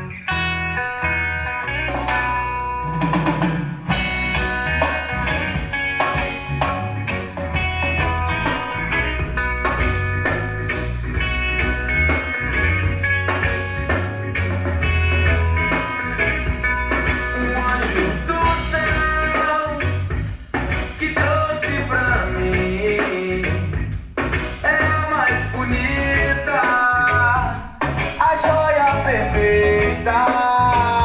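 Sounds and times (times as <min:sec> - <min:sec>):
bass: 0:00.0 - 0:31.0
guitar: 0:00.0 - 0:31.0
drum kit steady beat: 0:02.9 - 0:31.0.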